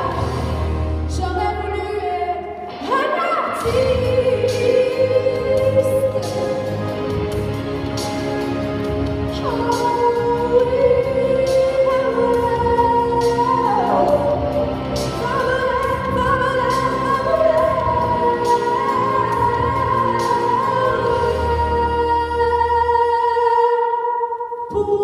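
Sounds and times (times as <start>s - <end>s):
young woman singing: 0.0s - 7.2s, 9.3s - 25.0s
musical accompaniment: 0.0s - 23.4s.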